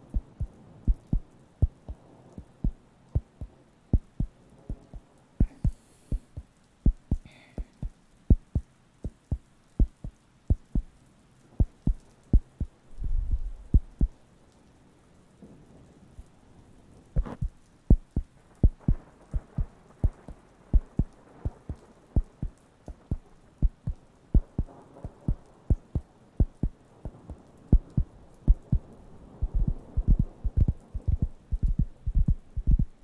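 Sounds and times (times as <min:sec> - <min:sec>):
faint rustle: 0:00.0 - 0:33.0.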